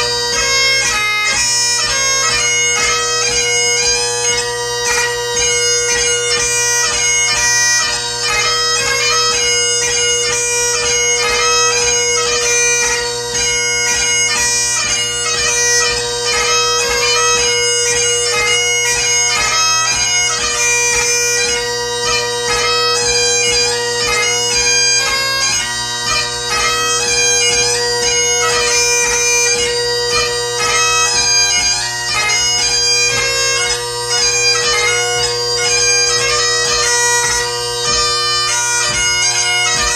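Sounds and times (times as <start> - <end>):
bagpipe drones and chanter melody: 0.0 - 39.9.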